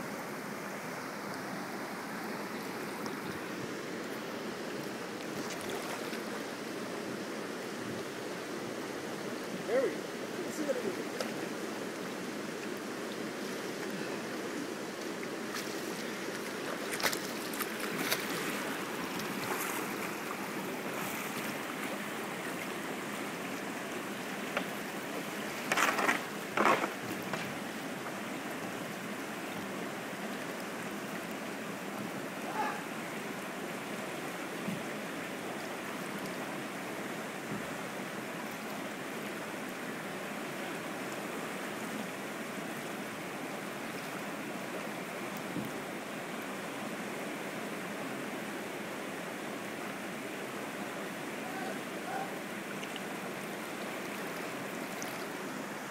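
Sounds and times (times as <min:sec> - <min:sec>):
river rapids rushing: 0:00.0 - 0:55.9.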